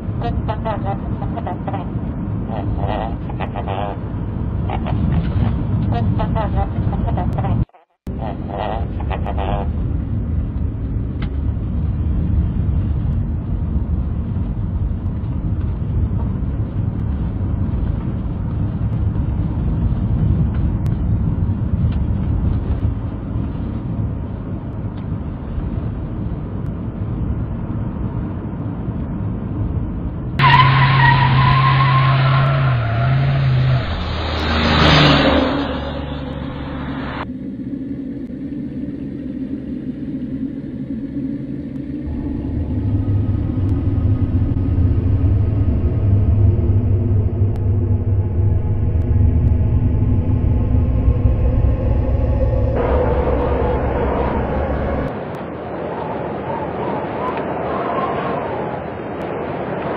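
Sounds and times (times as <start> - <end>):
harsh noise with low tone: 0.0 - 56.0.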